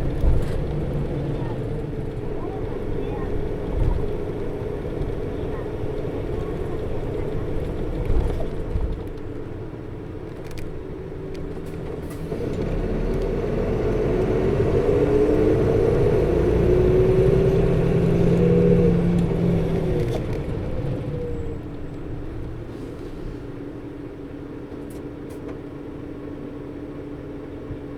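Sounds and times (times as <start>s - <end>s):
bus diesel engine: 0.0s - 27.9s
engine cooling fan: 0.0s - 27.9s.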